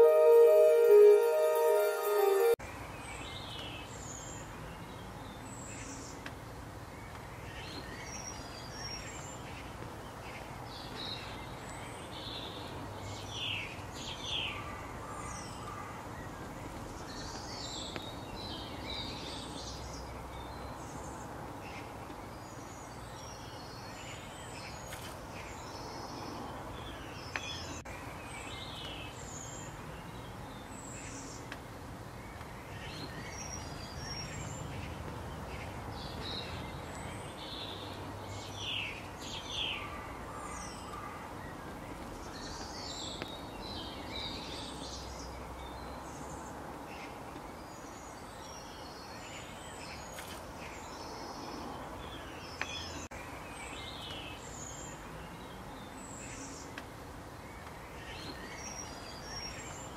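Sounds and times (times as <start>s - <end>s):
outdoor ambience hiss: 3.2s - 59.9s.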